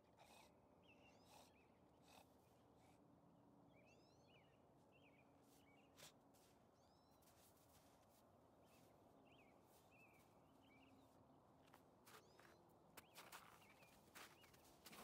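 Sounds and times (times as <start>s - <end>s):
small birds chirping: 0.0s - 3.1s, 3.7s - 15.0s.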